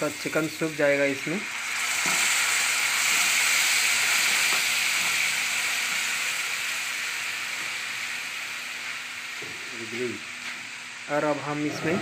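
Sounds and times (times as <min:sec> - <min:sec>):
liquid hissing in hot pan: 0:00.0 - 0:12.0.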